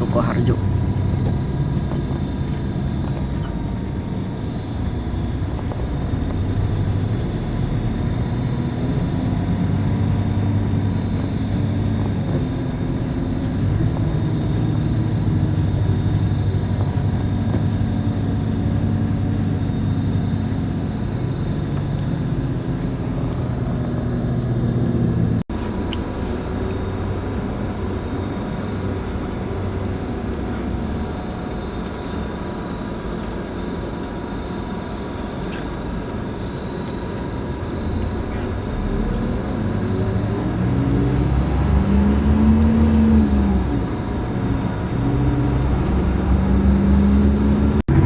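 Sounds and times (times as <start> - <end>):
diesel engine drone: 0.0 - 48.0
road and cabin noise: 0.0 - 48.0.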